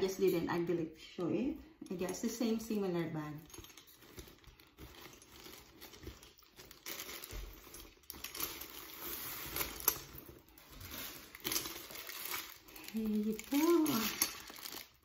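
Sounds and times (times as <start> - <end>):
cloth and plastic rustling: 2.0 - 15.0.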